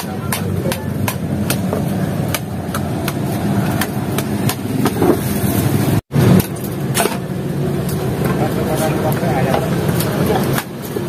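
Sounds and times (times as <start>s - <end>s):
street noise rumble: 0.0s - 11.0s.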